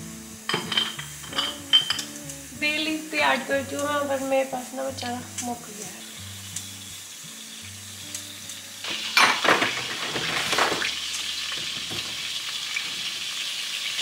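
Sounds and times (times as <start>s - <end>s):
seeds sizzling in hot oil: 0.0s - 14.0s.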